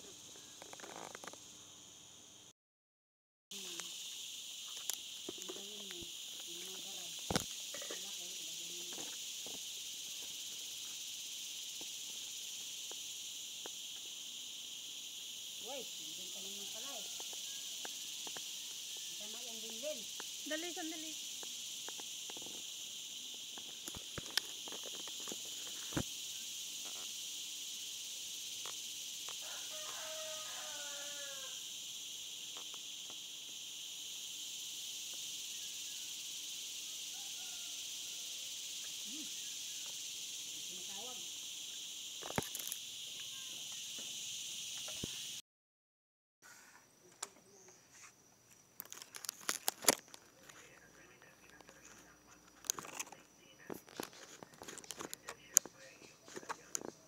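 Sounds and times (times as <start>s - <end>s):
insects chirring: 0.0s - 2.5s, 3.5s - 45.4s, 46.4s - 57.0s.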